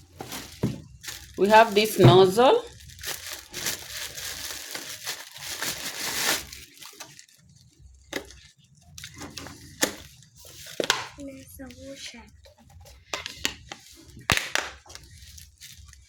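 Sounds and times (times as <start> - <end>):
packaging rustling and crinkling: 0.0 - 12.0, 12.7 - 16.0.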